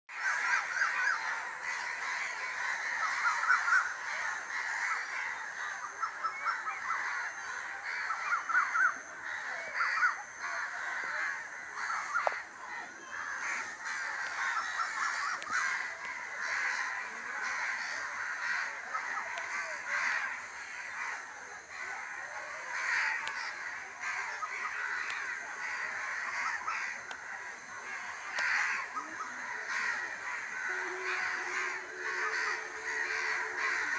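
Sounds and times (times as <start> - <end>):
crows cawing: 0.1 - 33.9.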